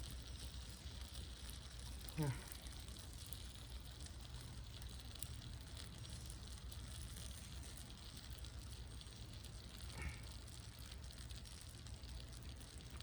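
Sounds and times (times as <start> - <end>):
wood fire crackling faintly: 0.0 - 13.0.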